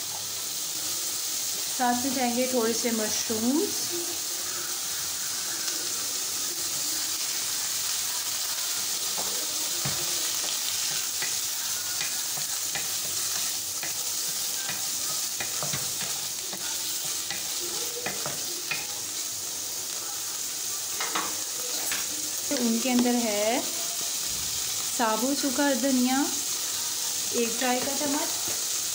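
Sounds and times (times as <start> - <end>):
food sizzling in oil: 0.0 - 28.9.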